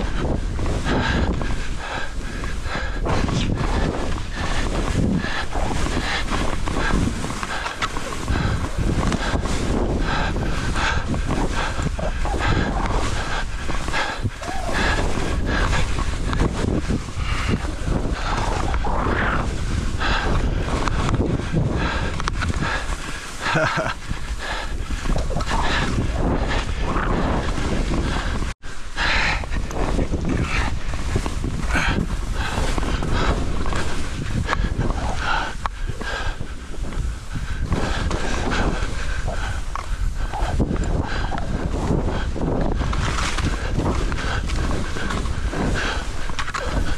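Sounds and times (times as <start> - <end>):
skis swishing through snow: 0.0 - 46.9
wind on microphone: 0.0 - 46.9.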